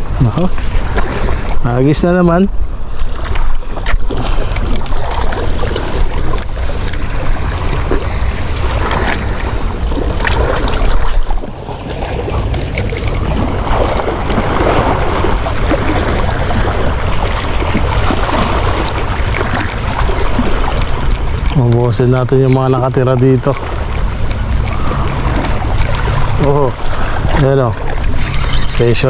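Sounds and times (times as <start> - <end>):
sea waves: 0.0 - 29.0
wind buffeting microphone: 0.0 - 29.0.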